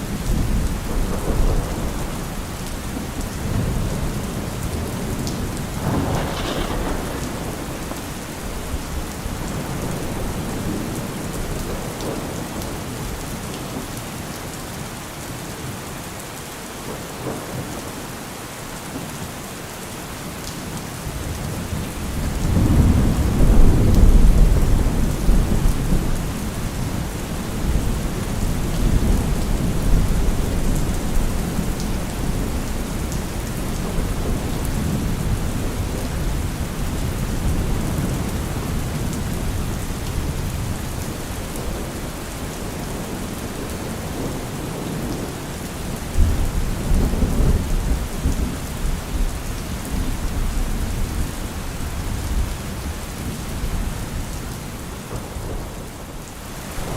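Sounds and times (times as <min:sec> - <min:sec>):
steady rain hiss: 0:00.0 - 0:56.9
rolling thunder: 0:00.1 - 0:13.2, 0:21.2 - 0:53.9, 0:55.0 - 0:56.9.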